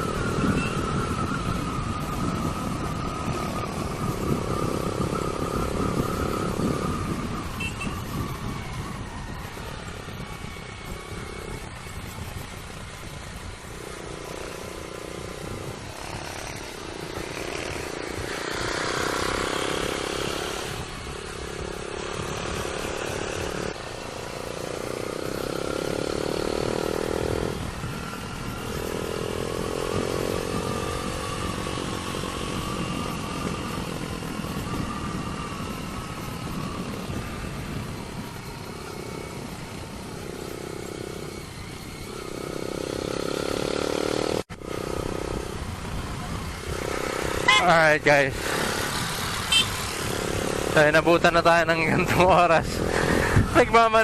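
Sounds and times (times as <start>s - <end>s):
motorcycle engine revving: 0.0s - 54.0s
wind rumble on microphone: 0.0s - 54.0s.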